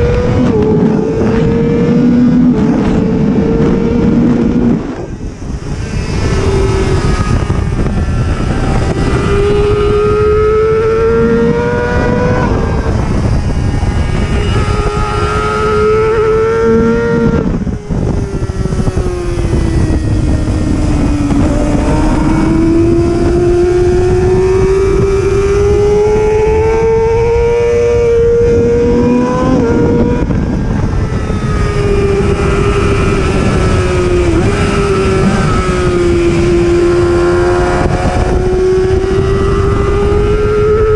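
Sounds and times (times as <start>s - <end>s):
motorcycle engine high revs: 0.0s - 40.9s.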